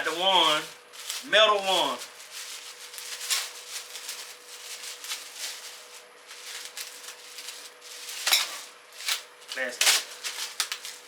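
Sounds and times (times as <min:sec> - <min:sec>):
packaging rustling and scraping: 0:00.0 - 0:11.0.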